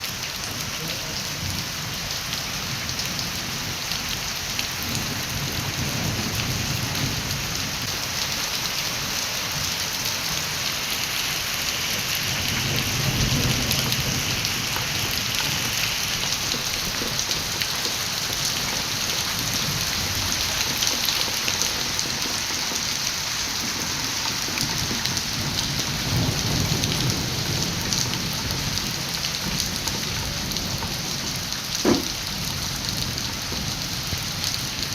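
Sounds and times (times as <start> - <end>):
heavy rain pattering: 0.0 - 34.9.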